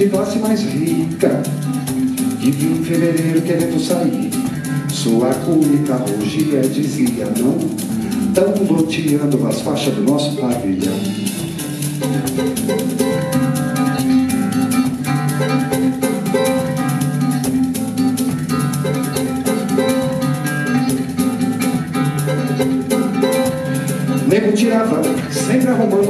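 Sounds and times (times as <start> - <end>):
acoustic guitars plucked: 0.0 - 26.0
bass: 0.0 - 26.0
drums: 0.0 - 26.0
hand percussion rattling: 0.0 - 26.0.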